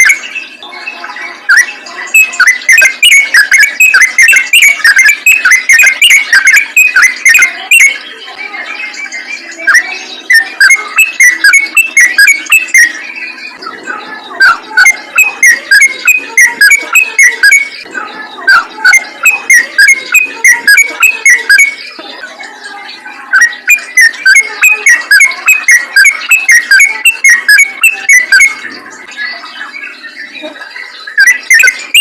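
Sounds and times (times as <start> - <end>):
bulbul chattering song: 0.0 - 32.0.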